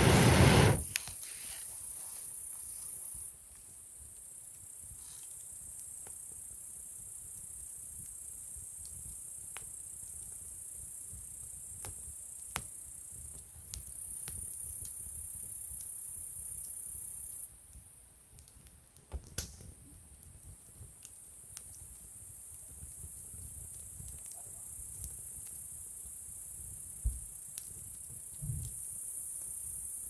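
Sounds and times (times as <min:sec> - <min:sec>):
campfire crackling: 0:00.0 - 0:30.0
crickets trilling: 0:00.8 - 0:17.5, 0:21.2 - 0:30.0.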